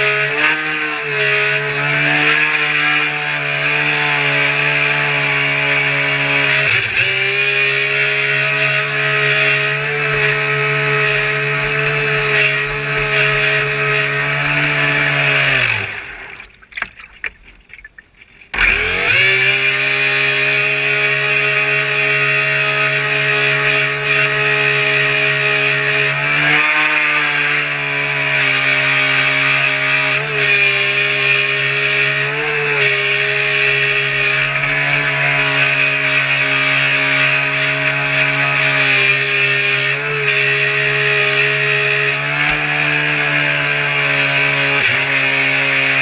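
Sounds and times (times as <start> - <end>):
model boat motor buzzing: 0.0 - 46.0.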